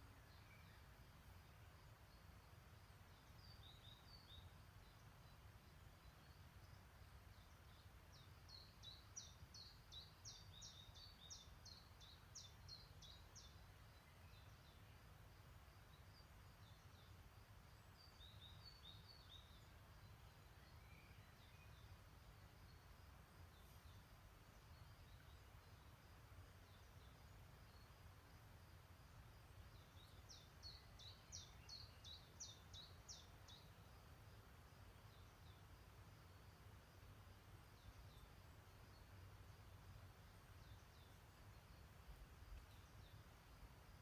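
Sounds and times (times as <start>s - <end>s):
songbird chirping: 0.0s - 44.0s.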